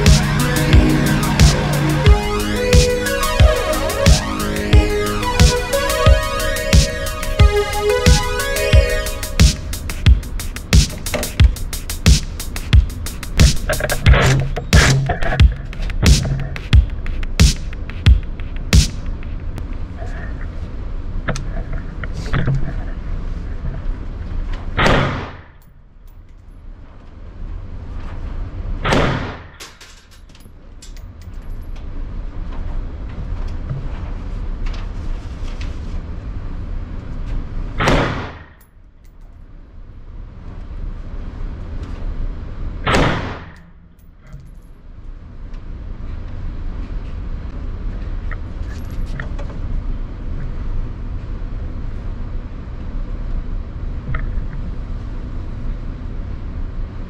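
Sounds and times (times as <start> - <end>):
steady background noise: 0.0 - 57.0.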